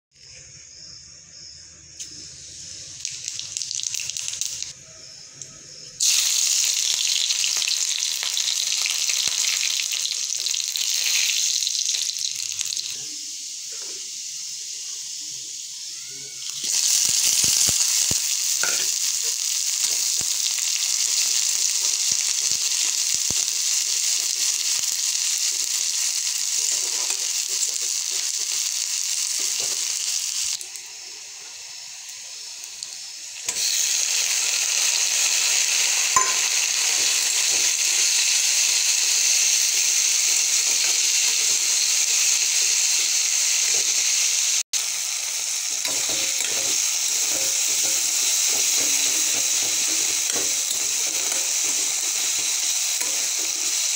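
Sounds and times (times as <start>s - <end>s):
hot oil sizzling: 0.1s - 53.9s.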